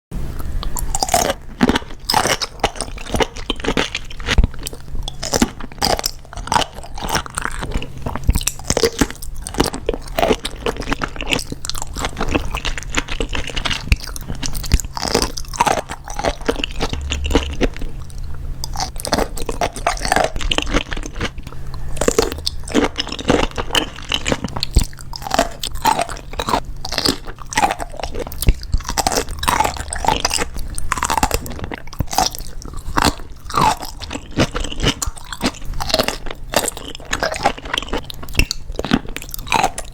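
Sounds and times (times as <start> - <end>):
crunchy chewing: 0.3 - 39.9.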